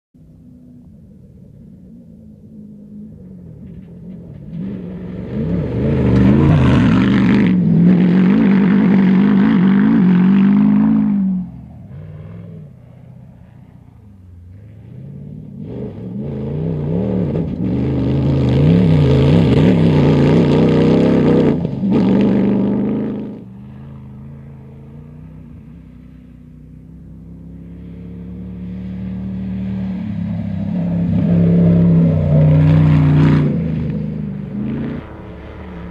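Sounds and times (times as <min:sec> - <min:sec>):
buggy engine revving: 0:02.3 - 0:35.9.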